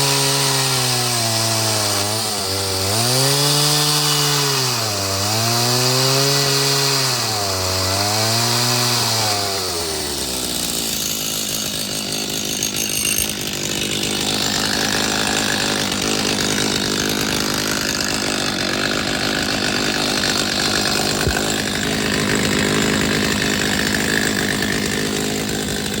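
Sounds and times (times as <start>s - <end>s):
chainsaw engine revving: 0.0s - 26.0s.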